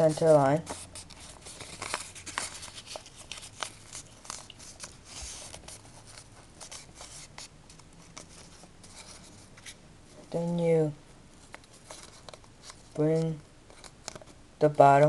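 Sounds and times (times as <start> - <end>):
paper rustling and crinkling: 0.0 - 9.8, 11.4 - 15.0.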